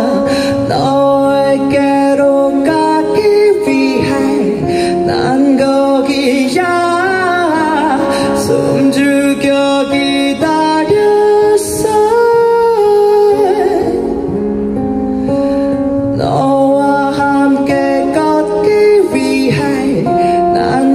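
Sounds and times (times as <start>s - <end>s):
instrumental backing: 0.0s - 20.9s
man singing into microphone: 0.0s - 20.9s.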